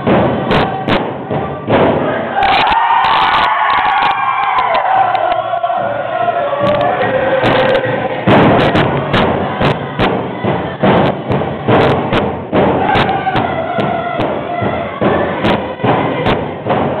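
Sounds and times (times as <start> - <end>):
voices singing a chant: 0.0 - 2.5, 4.4 - 17.0
drum beating: 0.0 - 17.0.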